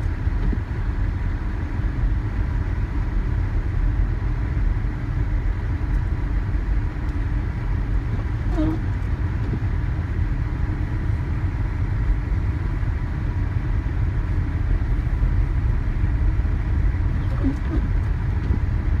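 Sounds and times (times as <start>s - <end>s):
faint steady whine: 0.0s - 19.0s
road and wind rumble: 0.0s - 19.0s.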